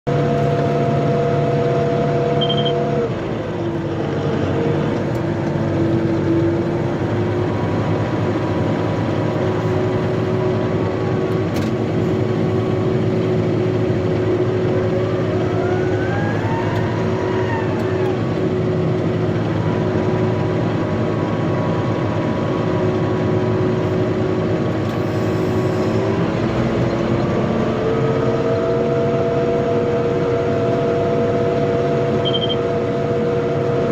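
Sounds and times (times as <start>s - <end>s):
tractor engine under load: 0.1s - 28.5s.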